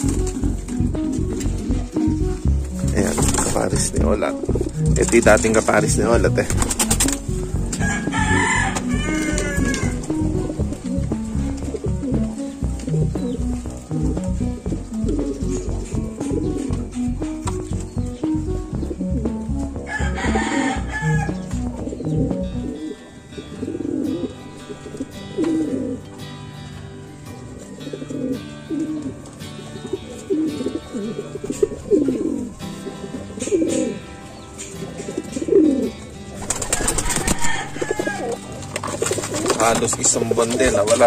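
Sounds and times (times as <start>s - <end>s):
background music: 0.0s - 41.0s
pigeons cooing: 0.0s - 41.0s.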